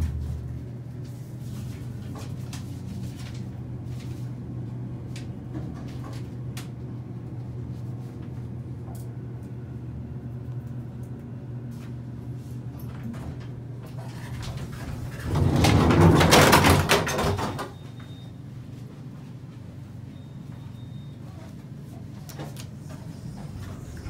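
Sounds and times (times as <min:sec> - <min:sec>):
elevator humming: 0:00.0 - 0:02.2, 0:03.4 - 0:24.0.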